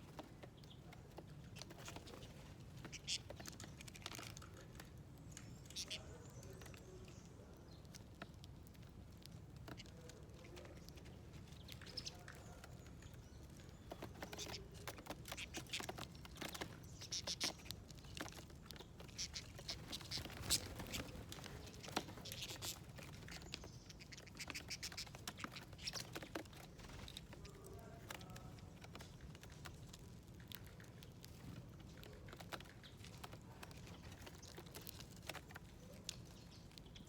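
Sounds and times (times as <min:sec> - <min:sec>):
birds pecking on feeder: 0:00.0 - 0:37.0.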